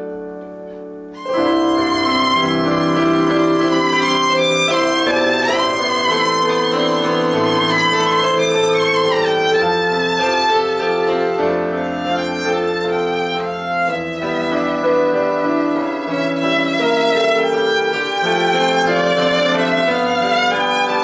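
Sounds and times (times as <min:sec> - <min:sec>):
violin melody with slides: 0:01.1 - 0:21.0.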